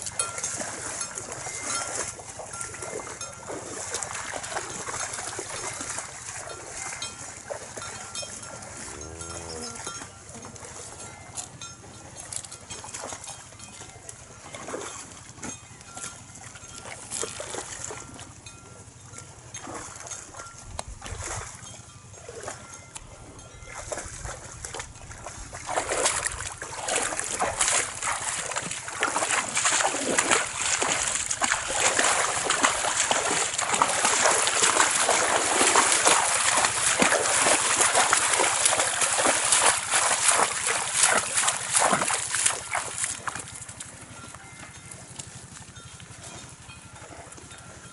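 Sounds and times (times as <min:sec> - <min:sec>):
cattle hooves splashing in water: 0:00.0 - 0:47.9.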